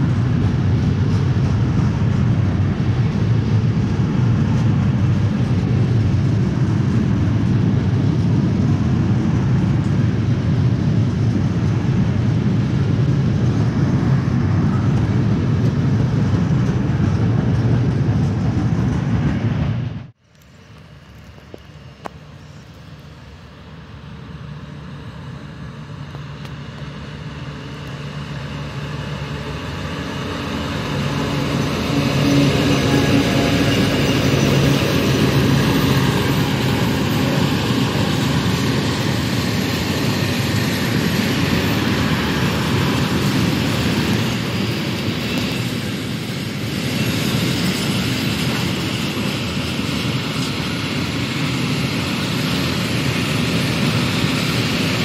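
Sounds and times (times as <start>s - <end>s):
train wheels clattering on rails: 0.0s - 19.9s, 25.9s - 55.0s
locomotive engine: 0.0s - 55.0s.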